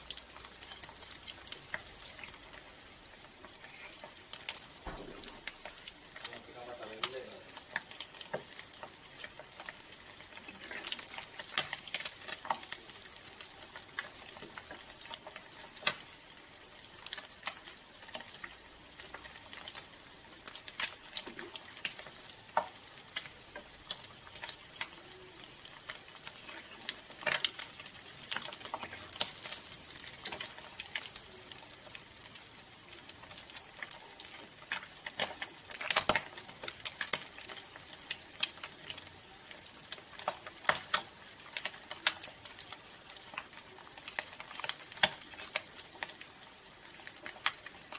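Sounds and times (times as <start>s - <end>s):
fish sizzling in hot oil: 0.0s - 47.9s
oil crackling and popping: 0.0s - 47.9s.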